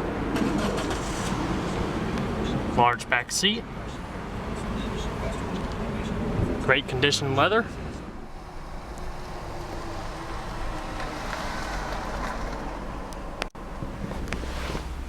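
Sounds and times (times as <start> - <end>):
outdoor rumble: 0.0 - 15.0.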